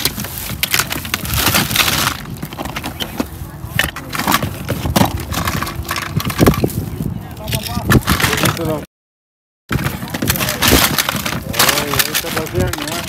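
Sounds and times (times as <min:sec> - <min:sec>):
toys clattering in a box: 0:00.0 - 0:06.8, 0:07.4 - 0:08.8, 0:09.7 - 0:13.0.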